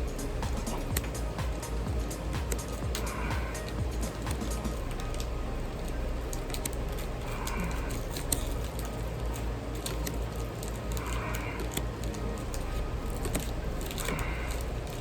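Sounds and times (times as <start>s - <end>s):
low steady hum: 0.0s - 15.0s
trading cards crackling and clicking: 0.0s - 15.0s.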